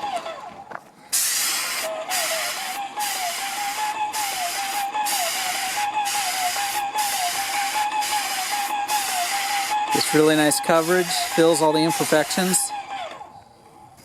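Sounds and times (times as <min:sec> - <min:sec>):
motor whine: 0:00.0 - 0:00.8, 0:01.8 - 0:13.9
sprayer hissing: 0:01.1 - 0:13.2.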